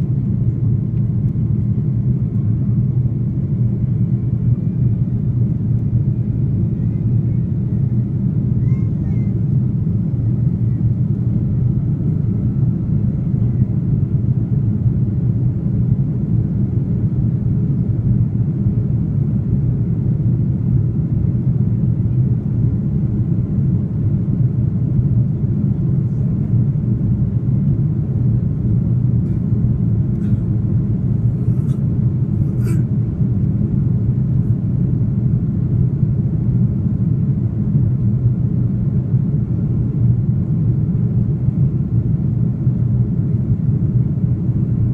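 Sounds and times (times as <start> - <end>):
aircraft engines and cabin rumble: 0.0 - 44.9.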